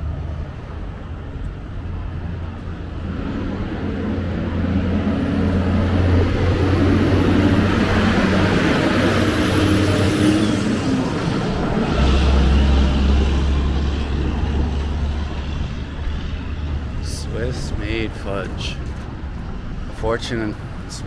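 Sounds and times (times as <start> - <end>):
passing vehicle engines: 0.0 - 21.0
tyre and air rush: 0.0 - 21.0.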